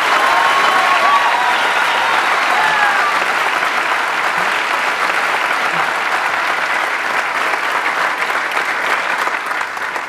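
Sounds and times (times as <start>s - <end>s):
audience applauding: 0.0s - 10.0s
cheers: 0.0s - 10.0s.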